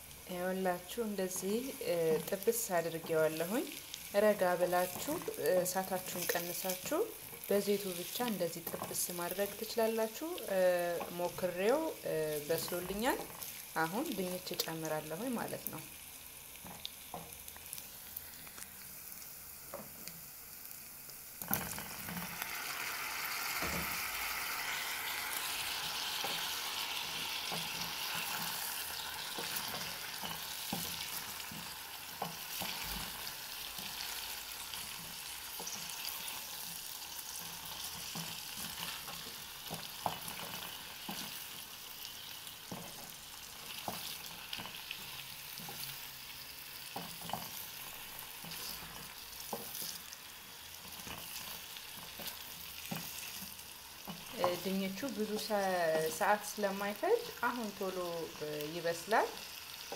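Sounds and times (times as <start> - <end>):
vegetables frying in oil: 0.0 - 59.9.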